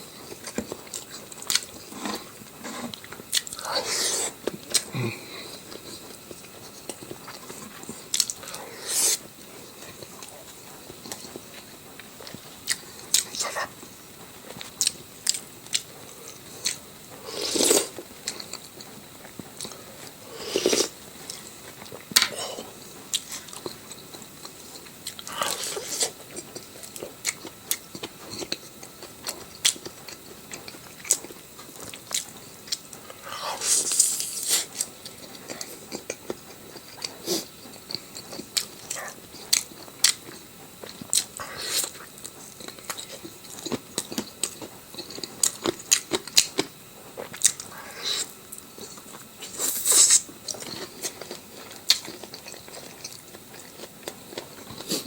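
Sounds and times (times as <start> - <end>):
person chewing and biting food: 0.2 - 55.0.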